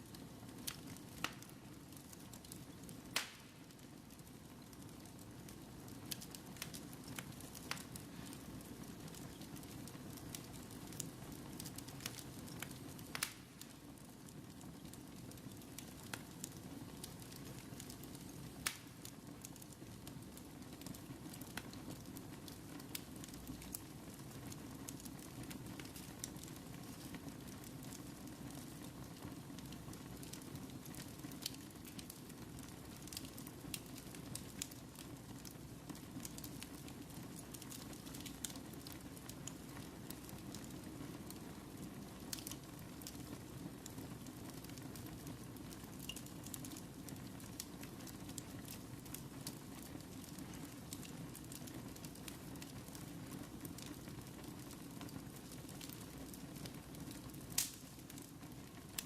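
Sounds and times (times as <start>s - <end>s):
fire crackling in a fireplace: 0.0s - 59.0s
sharp pops of burning wood: 0.1s - 3.8s, 5.7s - 59.0s.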